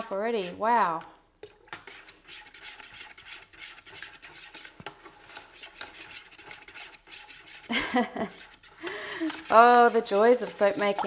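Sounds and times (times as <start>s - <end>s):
utensil scraping through batter: 0.0s - 11.0s.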